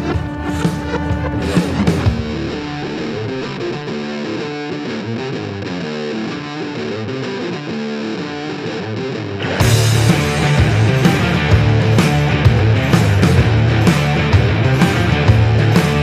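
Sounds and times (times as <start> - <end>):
distorted guitar riff: 0.0 - 16.0
rock band playing: 0.0 - 16.0.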